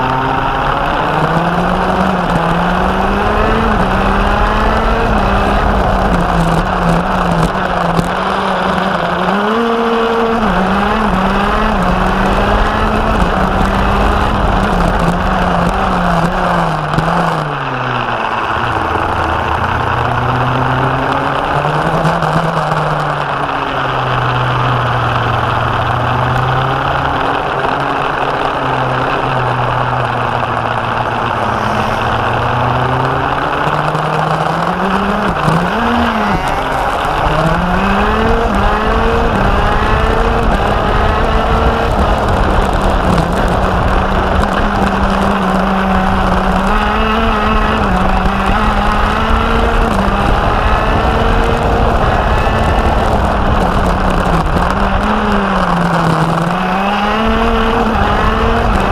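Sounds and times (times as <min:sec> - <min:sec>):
go-kart engine revving: 0:00.0 - 0:58.9
wind and road rush: 0:00.0 - 0:58.9.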